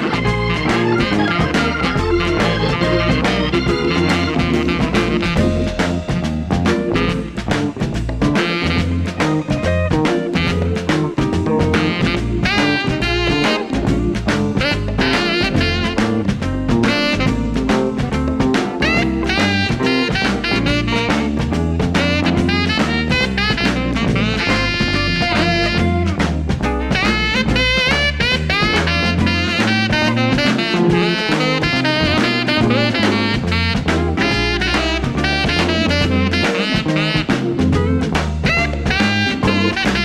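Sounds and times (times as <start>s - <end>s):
drum kit beat: 0.0s - 40.0s
swing jazz with horns: 0.0s - 40.0s.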